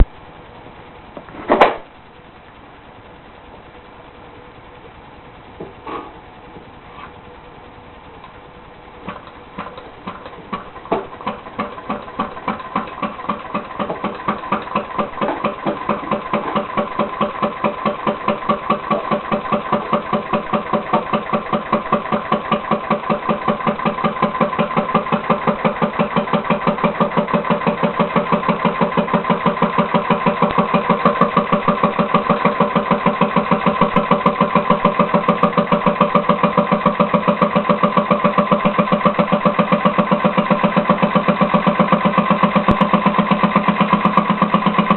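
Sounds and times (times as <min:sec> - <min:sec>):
compressed-air motor pulsing: 0:08.6 - 0:44.9.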